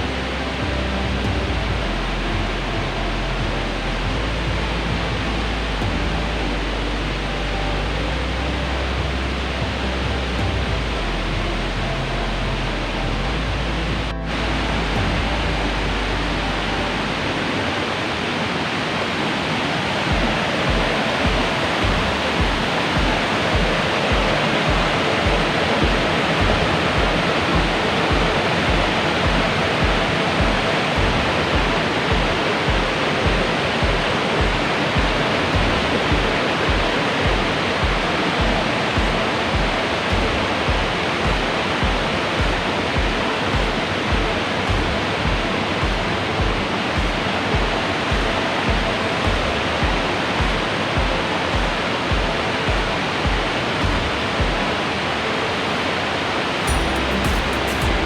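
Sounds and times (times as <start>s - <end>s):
music with deep steady beat: 0.0s - 17.6s, 20.1s - 54.8s, 56.7s - 58.0s
waterfall rushing: 0.0s - 58.0s.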